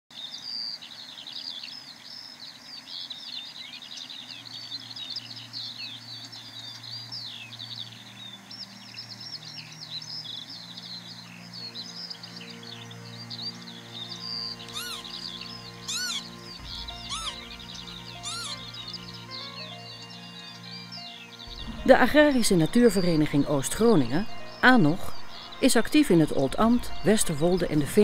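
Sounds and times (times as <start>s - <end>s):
skylark song: 0.2s - 28.0s
soft low music notes: 4.5s - 28.0s.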